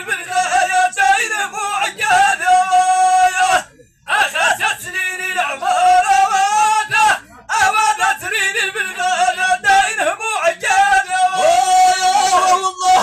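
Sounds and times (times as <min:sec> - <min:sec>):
man chanting through loudspeaker: 0:00.0 - 0:13.0.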